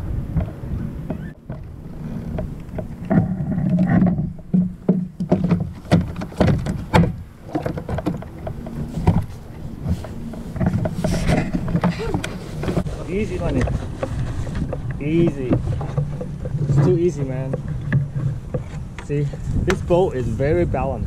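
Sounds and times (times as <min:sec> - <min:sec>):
kayak hull knocks and scuffs: 0:00.3 - 0:20.0.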